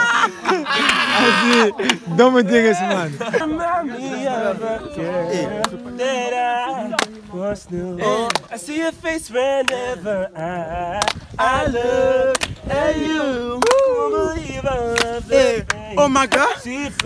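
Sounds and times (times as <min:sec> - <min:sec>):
men singing and chanting: 0:00.0 - 0:17.0.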